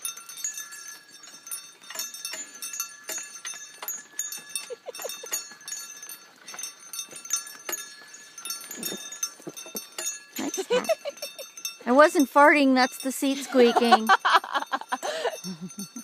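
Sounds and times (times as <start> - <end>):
harness bells jingling: 0.0 - 16.0.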